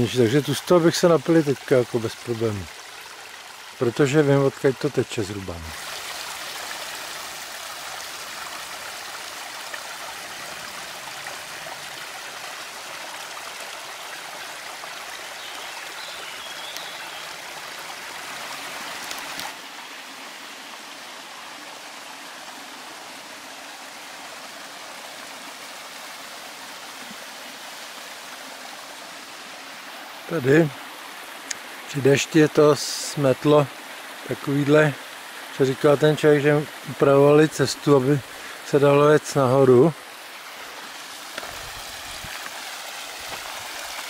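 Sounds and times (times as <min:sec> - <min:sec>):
mountain stream running: 0:00.0 - 0:44.0.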